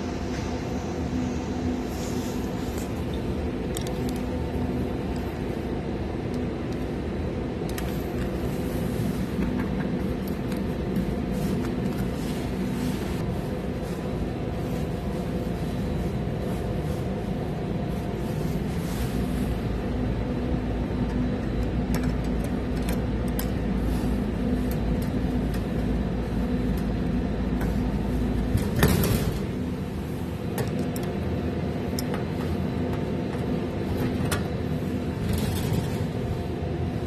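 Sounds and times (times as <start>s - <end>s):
air conditioner fans humming: 0.0s - 37.0s.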